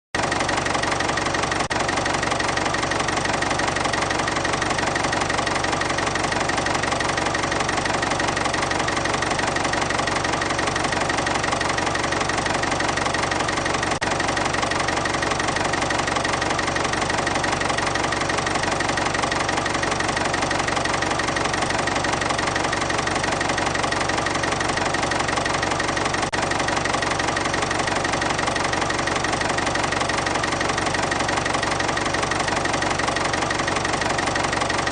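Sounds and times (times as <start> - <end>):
excavator diesel engine idling: 0.2 - 34.9.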